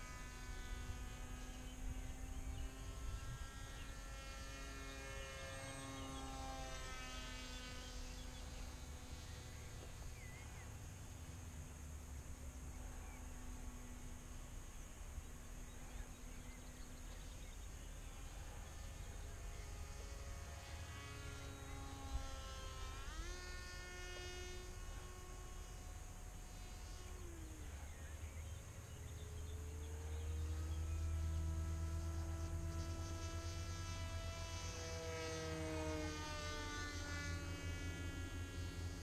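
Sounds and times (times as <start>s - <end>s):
model plane motor whining: 0.0s - 39.0s.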